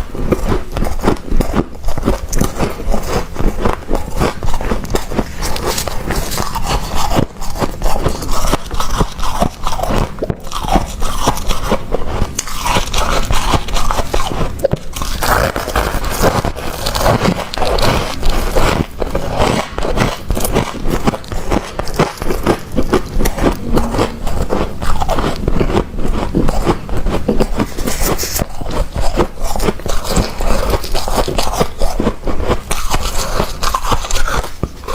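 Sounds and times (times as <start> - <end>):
freezer frost crunching and scraping: 0.0 - 34.9.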